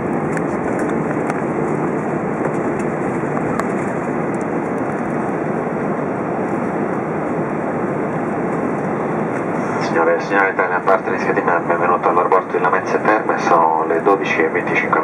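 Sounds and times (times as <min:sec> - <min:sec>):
airplane cabin engine and wheel noise: 0:00.0 - 0:15.0.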